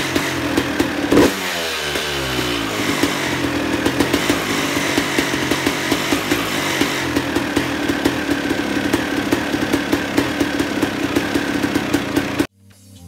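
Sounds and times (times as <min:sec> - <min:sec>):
dirt bike engine idling: 0:00.0 - 0:12.5
sharp exhaust pops: 0:00.0 - 0:12.5.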